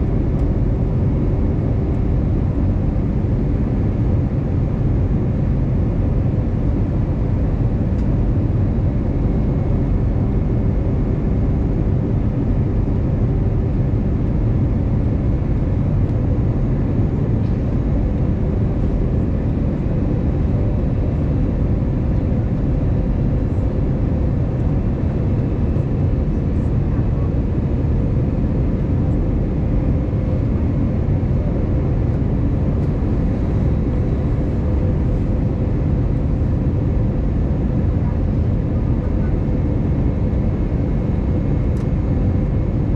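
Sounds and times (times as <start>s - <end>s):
aircraft cabin rumble: 0.0s - 42.9s.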